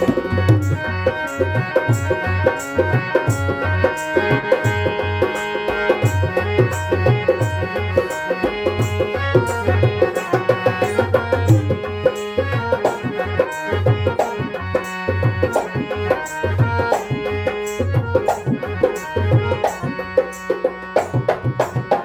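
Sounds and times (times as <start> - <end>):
dholak drum beating rhythm: 0.0 - 22.0
harmonium playing reedy melody: 0.0 - 22.0.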